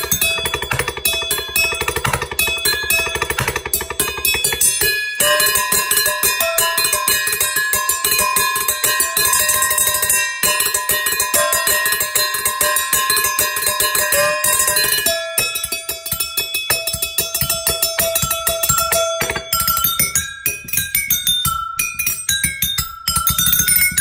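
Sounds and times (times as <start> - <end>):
knife beating on metal bowls: 0.0 - 9.8, 10.4 - 24.0.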